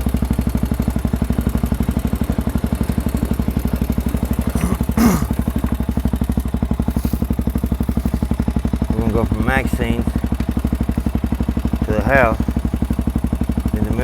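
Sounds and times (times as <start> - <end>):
atv engine idling: 0.0 - 14.0.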